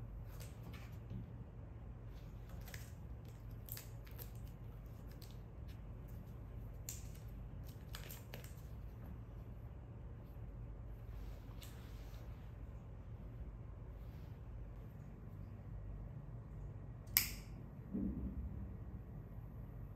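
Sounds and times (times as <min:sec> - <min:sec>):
low room hum: 0:00.0 - 0:19.9.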